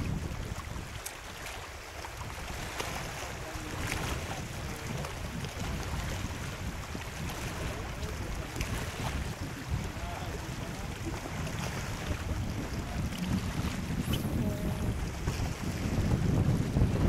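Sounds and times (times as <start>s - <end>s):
waves lapping: 0.0s - 17.0s
wind buffeting microphone: 0.0s - 17.0s.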